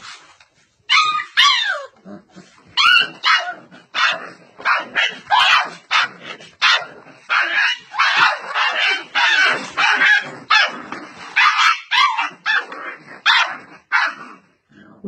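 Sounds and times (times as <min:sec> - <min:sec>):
dog yelping and whining: 0:00.8 - 0:14.2.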